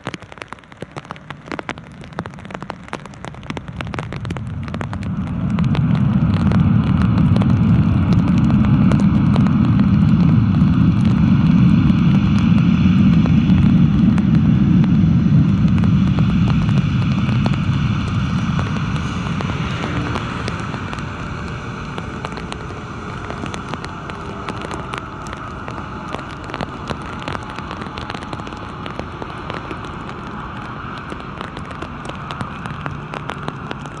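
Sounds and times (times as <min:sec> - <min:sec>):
heavy rain pattering: 0:00.0 - 0:34.0
jet engines reverse thrust rumble: 0:00.0 - 0:34.0.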